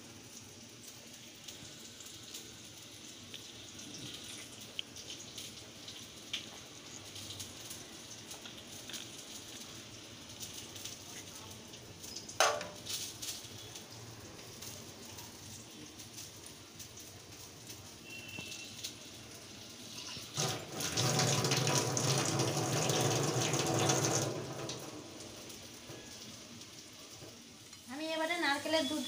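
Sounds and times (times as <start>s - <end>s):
plantain frying in oil: 0.0s - 29.0s.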